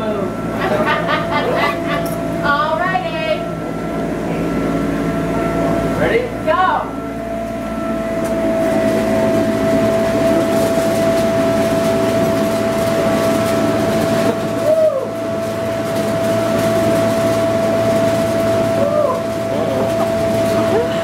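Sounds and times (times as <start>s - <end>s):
blower fan humming: 0.0s - 21.0s.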